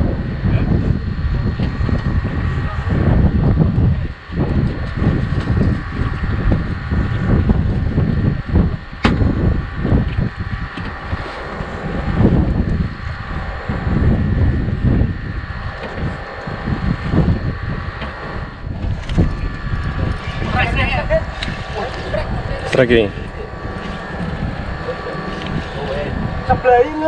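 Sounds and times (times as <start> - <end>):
faint hum: 0.0 - 27.0
wind buffeting microphone: 0.0 - 27.0.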